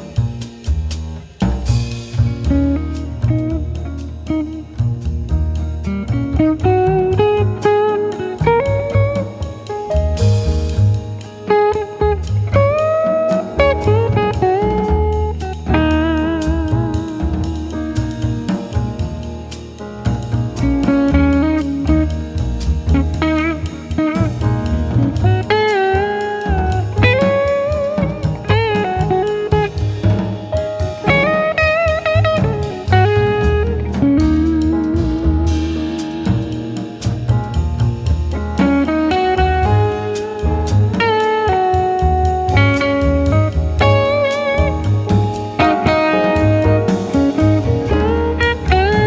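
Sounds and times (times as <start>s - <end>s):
bass: 0.0s - 49.0s
drums: 0.0s - 49.0s
electric guitar with bending notes: 5.9s - 10.3s, 11.0s - 18.7s, 20.5s - 49.0s.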